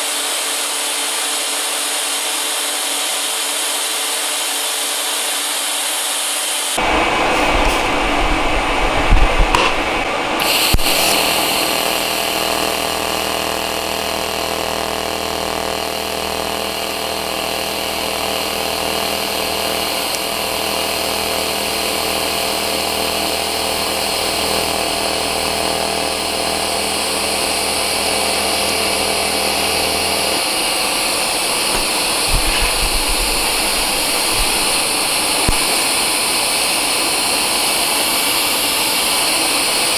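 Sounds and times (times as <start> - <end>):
welding arc buzzing and hissing: 0.0 - 39.9.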